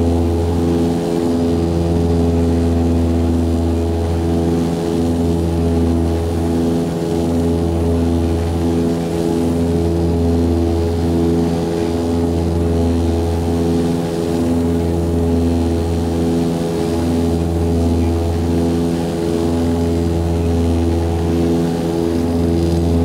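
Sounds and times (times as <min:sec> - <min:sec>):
turboprop cabin drone: 0:00.0 - 0:23.0.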